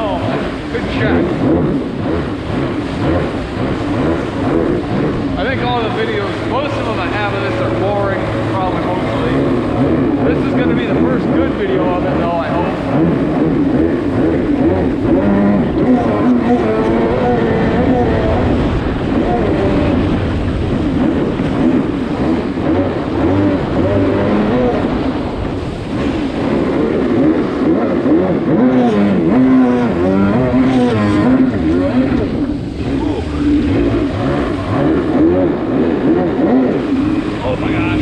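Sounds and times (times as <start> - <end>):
jet ski engine running: 0.0 - 38.0.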